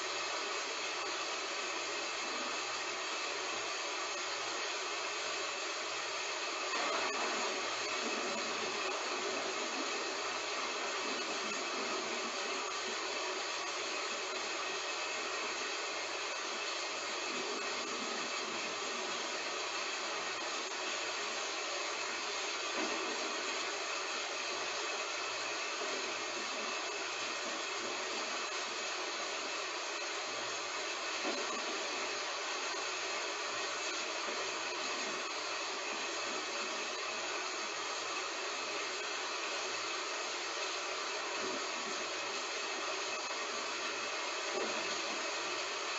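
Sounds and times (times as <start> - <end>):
heavy rain falling: 6.0 - 45.9.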